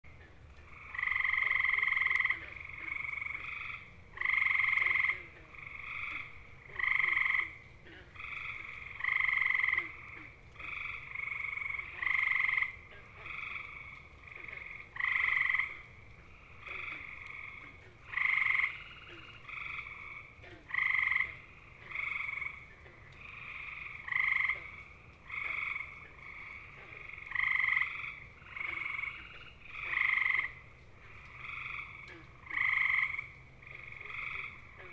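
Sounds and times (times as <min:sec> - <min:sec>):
tree frogs trilling: 0:00.1 - 0:34.9.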